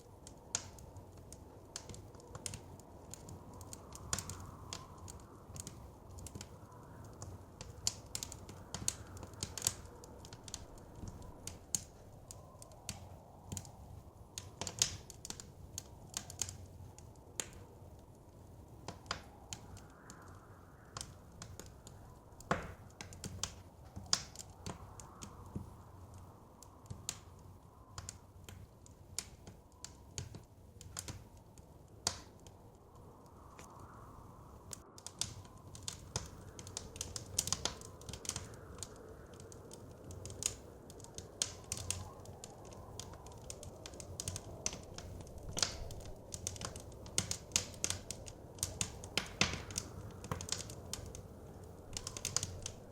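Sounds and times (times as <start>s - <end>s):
blizzard wind: 0.0s - 52.9s
wood fire crackling: 0.0s - 52.9s.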